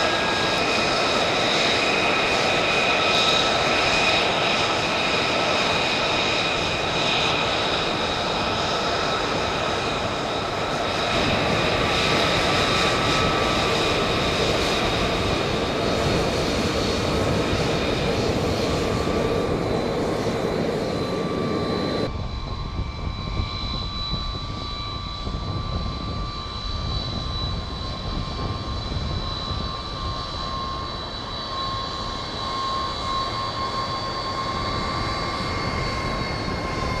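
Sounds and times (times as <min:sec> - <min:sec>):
jet engine roar with whine: 0:00.0 - 0:37.0.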